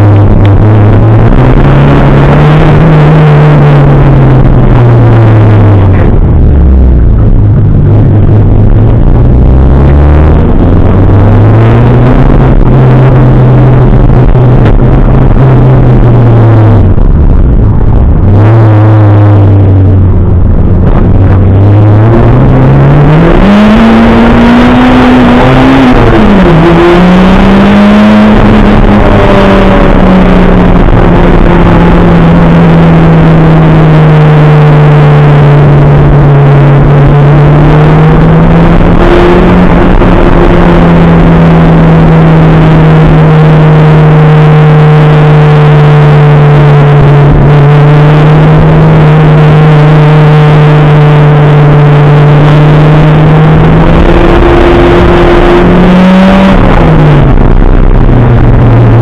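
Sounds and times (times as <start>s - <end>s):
rally car engine through gears: 0.0s - 59.0s
road and tyre noise: 0.0s - 59.0s.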